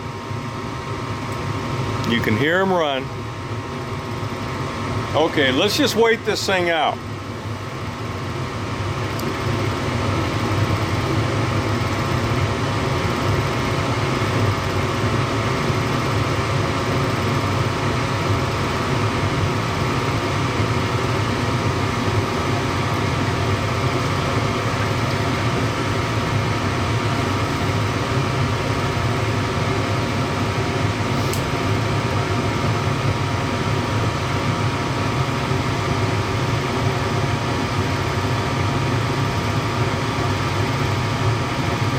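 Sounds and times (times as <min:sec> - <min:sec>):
draft inducer motor running: 0:00.0 - 0:41.9
gas burners running: 0:00.0 - 0:41.9.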